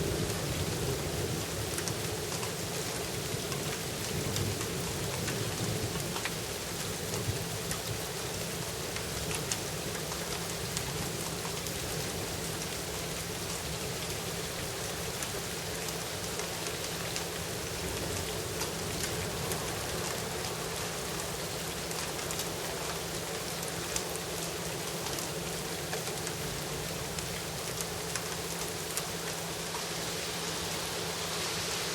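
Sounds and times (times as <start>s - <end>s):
raindrops ticking on hard surfaces: 0.0s - 31.9s
steady rain falling: 0.0s - 31.9s.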